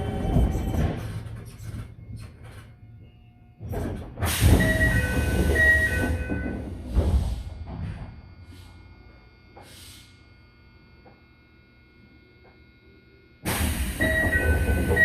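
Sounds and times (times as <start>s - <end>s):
electric train motor whine: 0.0s - 15.0s.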